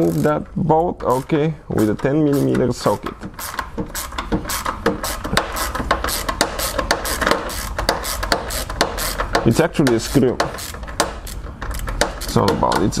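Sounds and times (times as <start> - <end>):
hand ratchet clicking: 0.0 - 13.0.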